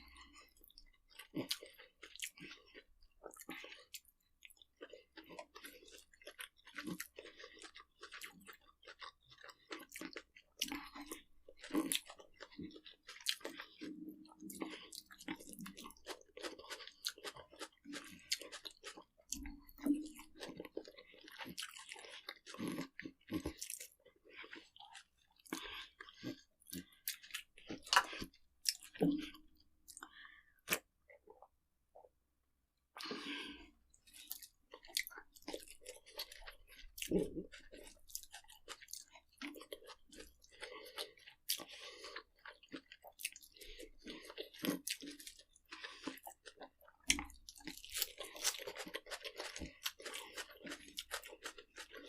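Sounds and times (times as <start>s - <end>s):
person chewing and crunching food: 0.0s - 32.2s, 32.8s - 52.0s.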